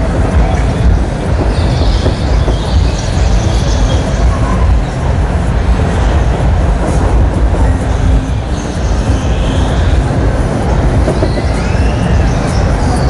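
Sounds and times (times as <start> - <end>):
ride mechanical rumble: 0.0 - 13.0.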